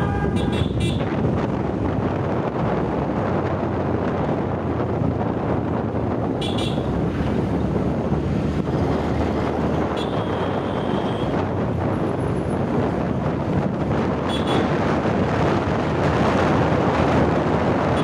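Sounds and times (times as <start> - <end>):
road traffic: 0.0 - 18.0
wind buffeting microphone: 0.0 - 18.0.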